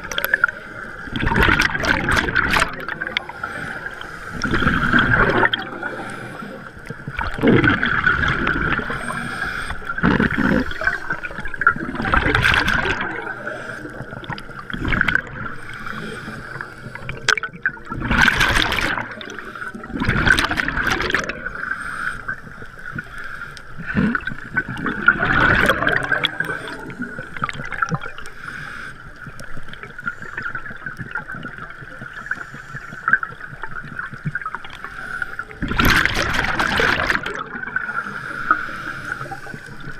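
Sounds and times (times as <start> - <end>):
bubbles gurgling: 0.0 - 23.1, 23.8 - 28.3, 29.3 - 32.4, 33.0 - 39.9
diver breathing through regulator: 0.1 - 11.6, 12.6 - 17.3, 18.8 - 30.8, 34.7 - 35.7, 36.4 - 39.9.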